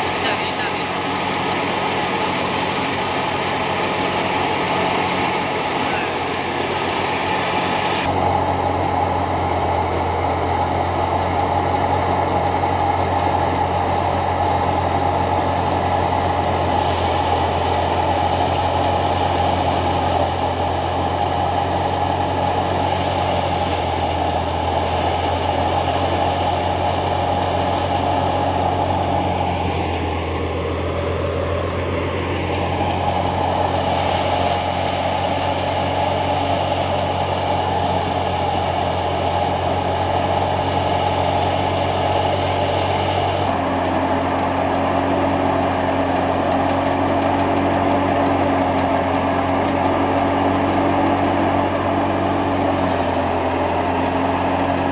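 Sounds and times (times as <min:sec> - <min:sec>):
thresher drum and fan hum: 0:00.0 - 0:54.9
tractor diesel engine running: 0:00.0 - 0:54.9.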